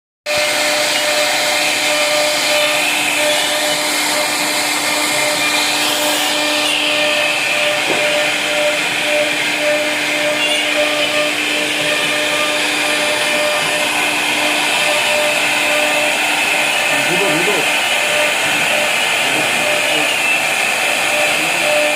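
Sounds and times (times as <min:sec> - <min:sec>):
router spindle whine: 0:00.3 - 0:21.9
wood cutting hiss: 0:00.3 - 0:21.9.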